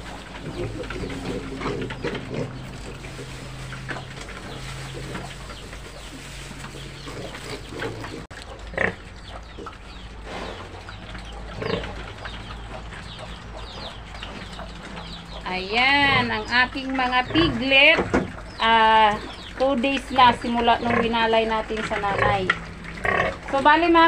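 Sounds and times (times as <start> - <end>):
piglets crunching feed: 0.0 - 24.0.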